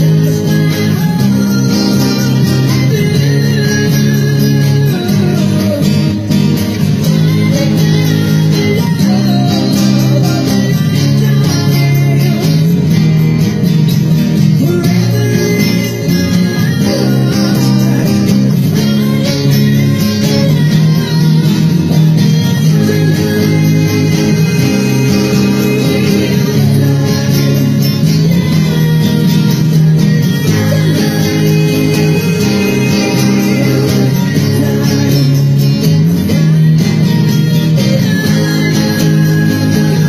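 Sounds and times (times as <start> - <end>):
acoustic guitar slow ballad: 0.0 - 40.0.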